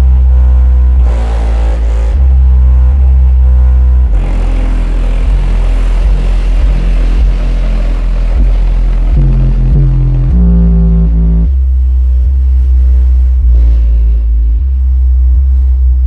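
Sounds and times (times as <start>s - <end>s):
bass-heavy beat through car stereo: 0.0s - 16.0s.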